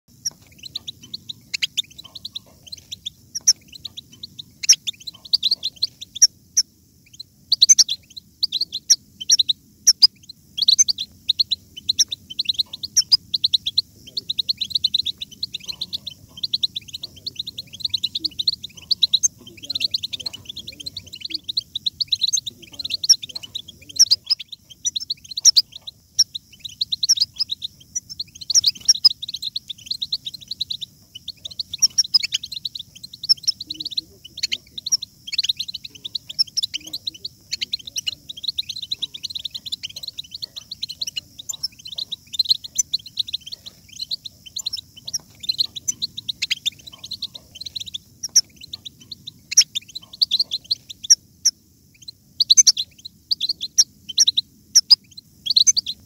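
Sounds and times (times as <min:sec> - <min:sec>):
goldfinch twittering song: 0:00.1 - 0:56.0.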